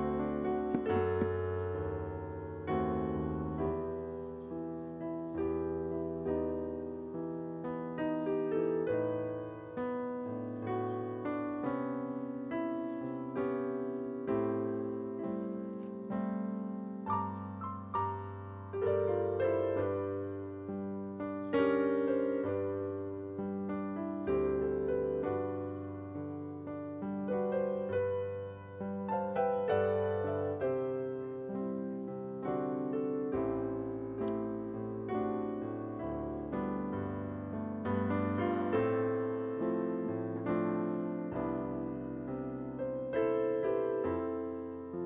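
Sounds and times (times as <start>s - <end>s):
piano playing slow chords: 0.0s - 45.0s.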